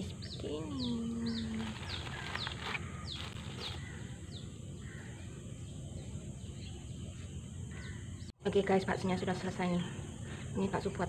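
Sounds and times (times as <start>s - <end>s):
low outdoor background noise: 0.0s - 11.0s.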